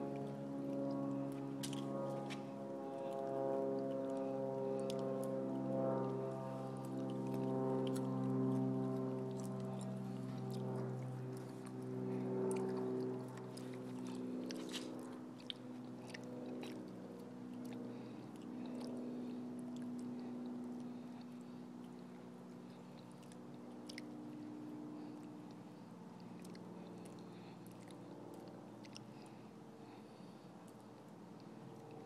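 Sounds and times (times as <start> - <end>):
squirrel gnawing and chewing: 3.0 - 32.0.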